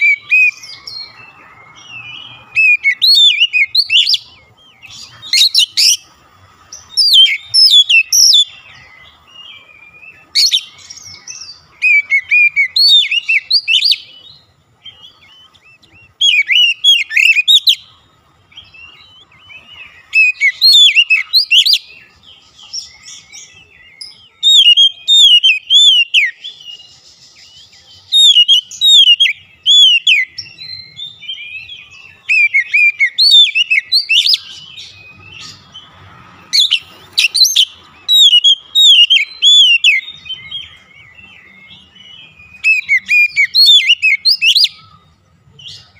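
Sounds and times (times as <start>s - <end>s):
bird song whistles and chirps: 0.0s - 45.9s.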